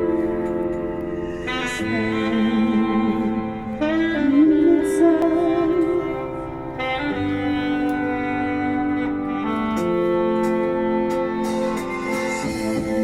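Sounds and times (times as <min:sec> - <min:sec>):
slow melodic instrumental music: 0:00.0 - 0:13.0.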